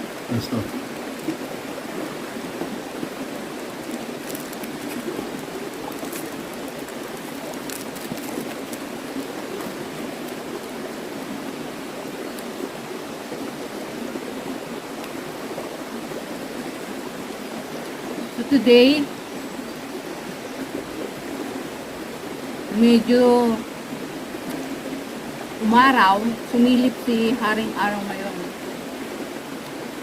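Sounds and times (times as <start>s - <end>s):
river running over rocks: 0.0s - 30.0s.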